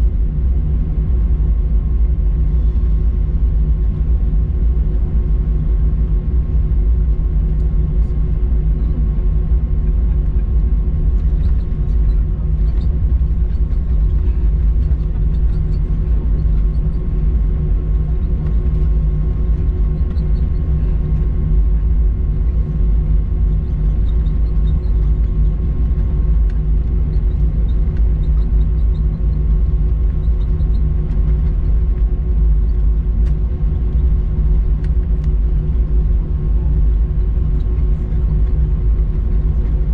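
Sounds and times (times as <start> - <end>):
aircraft engines idling rumble: 0.0 - 39.9
constant cabin hum: 0.0 - 39.9.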